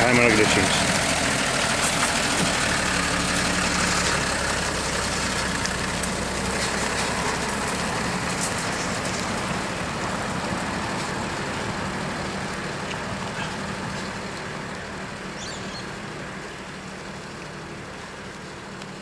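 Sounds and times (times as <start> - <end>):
truck engine driving off: 0.0 - 19.0.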